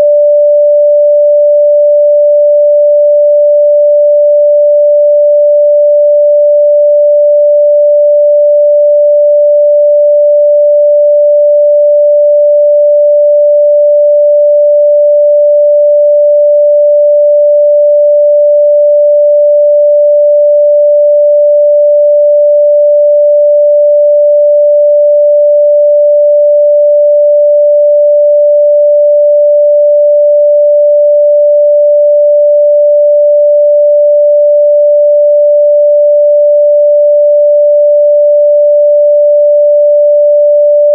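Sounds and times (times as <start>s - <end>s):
sine test tone: 0.0s - 40.9s.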